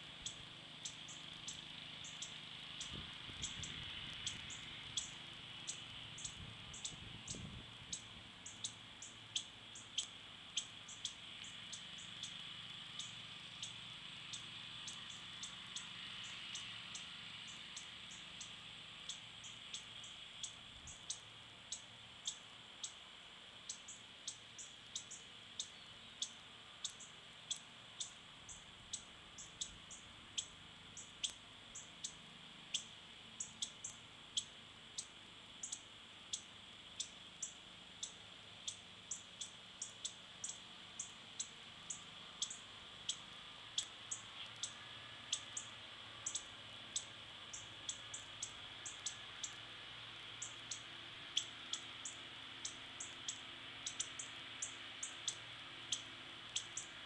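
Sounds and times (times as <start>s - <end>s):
cardinals chip calls: 0.0s - 57.0s.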